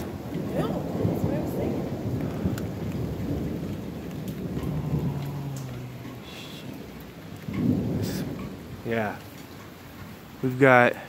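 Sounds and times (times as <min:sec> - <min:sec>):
thunder rumbling: 0:00.0 - 0:10.4
steady rain: 0:00.0 - 0:11.0.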